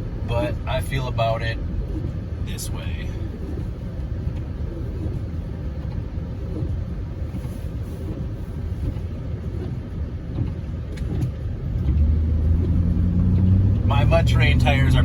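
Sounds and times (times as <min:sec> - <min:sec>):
car road and tyre noise: 0:00.0 - 0:15.0.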